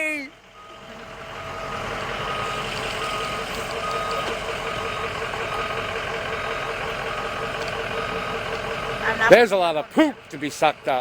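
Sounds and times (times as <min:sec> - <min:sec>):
truck backup alarm beeping: 0:00.0 - 0:11.0
truck engine running: 0:00.0 - 0:11.0.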